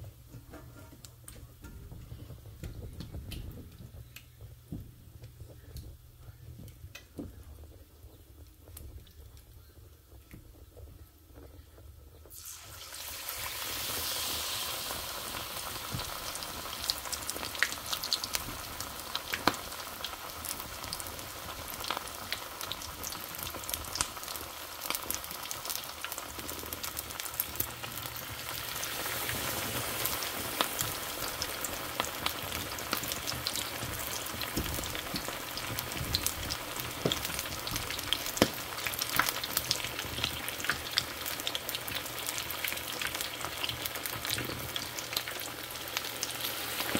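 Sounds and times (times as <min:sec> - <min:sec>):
wings frying in hot oil: 0:00.0 - 0:46.9.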